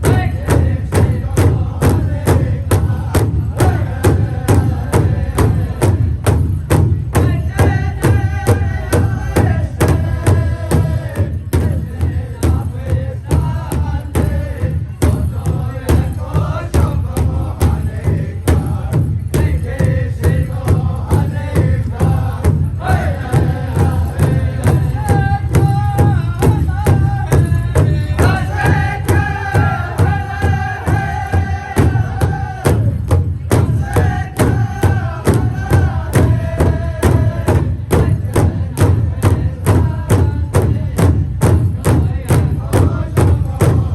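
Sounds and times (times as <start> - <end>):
large drum beating fast: 0.0 - 43.9
singers chanting in unison: 0.0 - 43.9.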